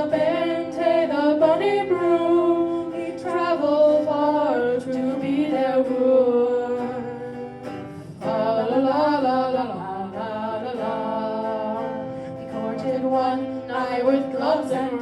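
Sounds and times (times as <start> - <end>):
person singing folk ballad: 0.0 - 15.0.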